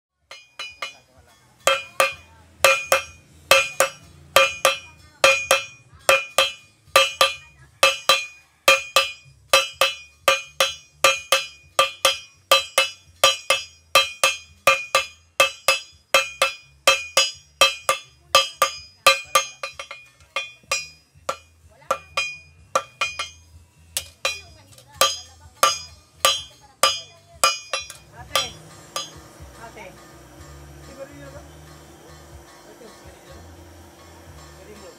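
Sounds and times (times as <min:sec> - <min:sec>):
hammers ringing on an anvil: 0:00.2 - 0:34.9.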